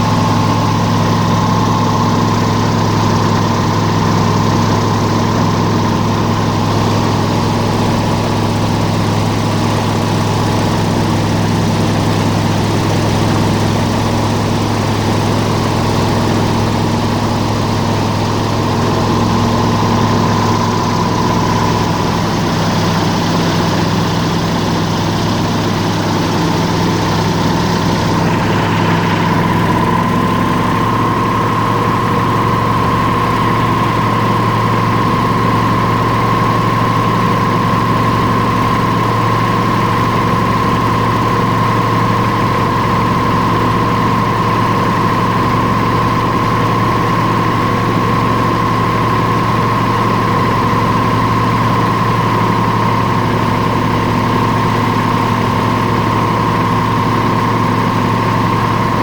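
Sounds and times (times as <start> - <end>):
airboat engine drone: 0.0 - 59.0.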